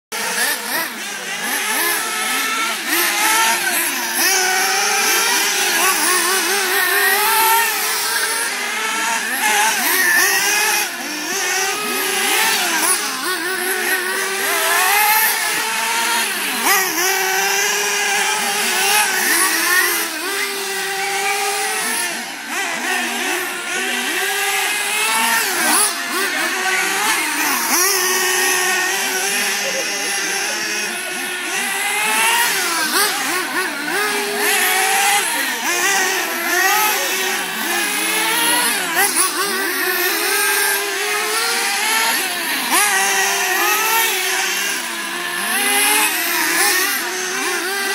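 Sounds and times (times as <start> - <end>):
rc car engines whining and revving: 0.0 - 47.9.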